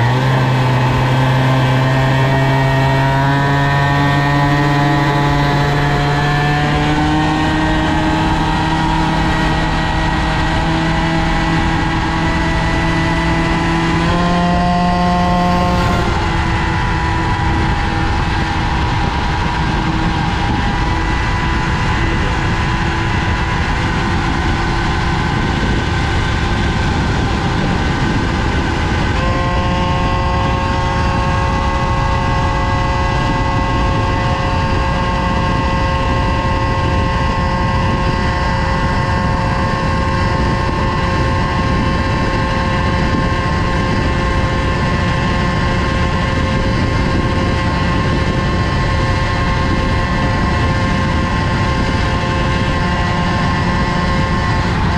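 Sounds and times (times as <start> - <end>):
moped engine high-revving: 0.0 - 54.9
wind rumble: 0.0 - 54.9.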